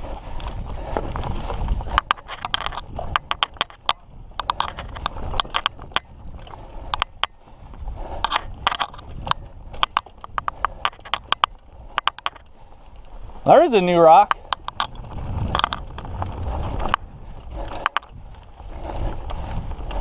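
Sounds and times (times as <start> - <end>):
bike rattling over rocks: 0.0 - 20.0
bike tyres crunching over gravel: 0.0 - 20.0.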